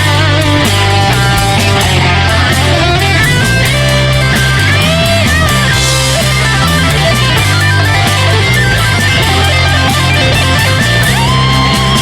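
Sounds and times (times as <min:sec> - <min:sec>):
overdriven electric guitar lead: 0:00.0 - 0:12.0.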